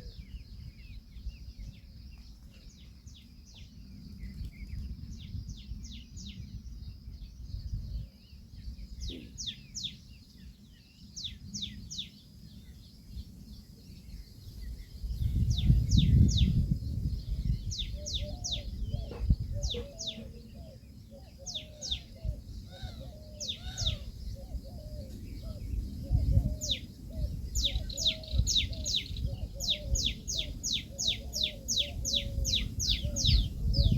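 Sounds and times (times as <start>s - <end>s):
lower wavering bird calls: 0.0s - 33.9s
wind rumble on microphone: 0.0s - 33.9s.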